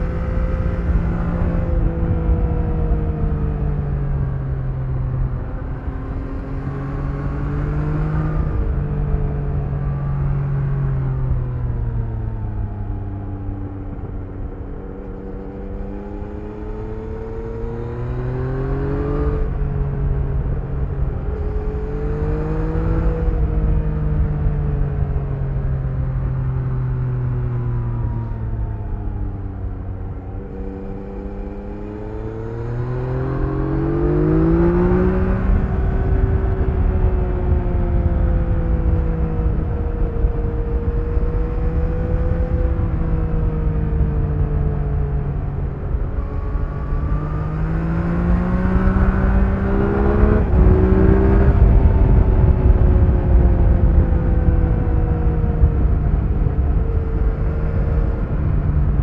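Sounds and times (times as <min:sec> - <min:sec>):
motorcycle engine while riding: 0:00.0 - 0:59.0
wind rumble: 0:00.0 - 0:59.0.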